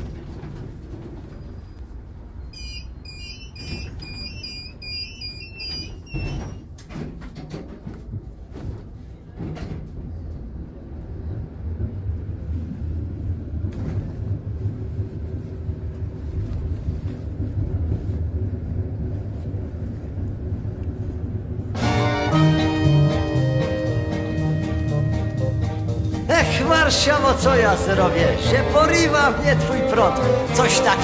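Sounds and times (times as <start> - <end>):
tram wheels rumbling on rails: 0.0 - 31.0.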